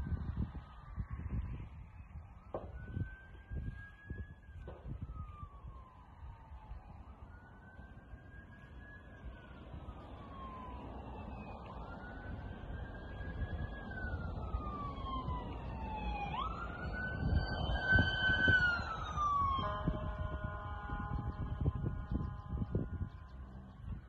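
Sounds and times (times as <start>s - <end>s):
wind on microphone: 0.0s - 7.7s, 8.6s - 24.0s
siren wailing: 0.0s - 24.0s.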